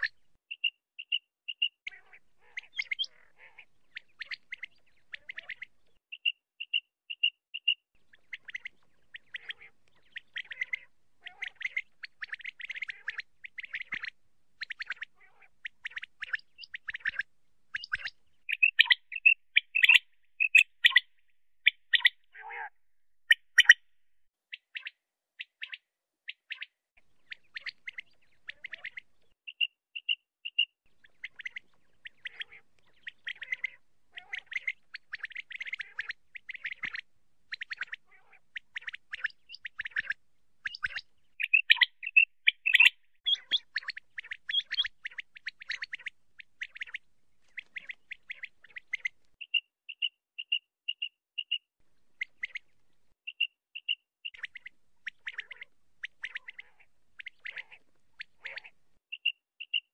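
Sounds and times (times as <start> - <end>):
quail calling: 0.0 - 23.9, 24.7 - 51.5, 53.4 - 59.9.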